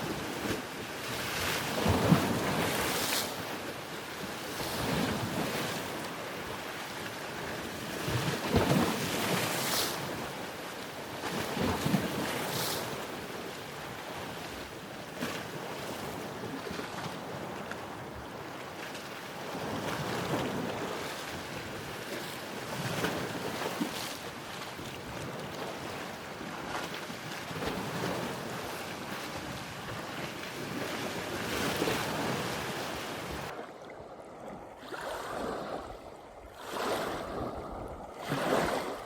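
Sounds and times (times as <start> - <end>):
ocean waves washing ashore: 0.0 - 39.0.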